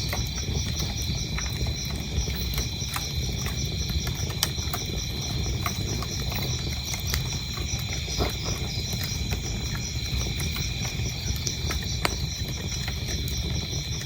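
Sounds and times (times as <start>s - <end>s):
crickets chirping: 0.0s - 14.0s
wood fire crackling: 0.0s - 14.0s.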